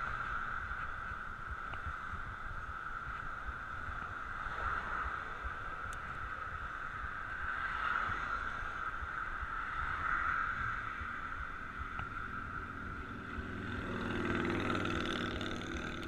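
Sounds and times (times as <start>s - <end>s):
bicycle tyres humming on road: 0.0s - 16.0s
wind rumbling on microphone: 0.0s - 16.0s.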